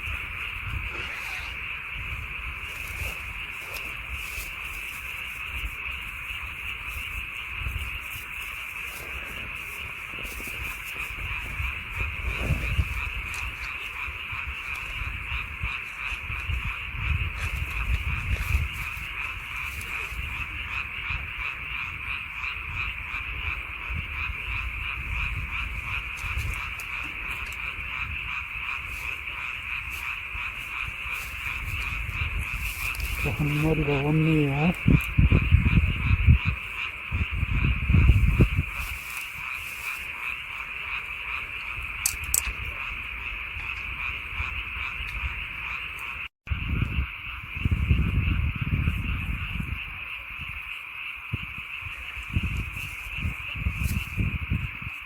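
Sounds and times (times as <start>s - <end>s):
frogs chorus: 0.0s - 55.0s.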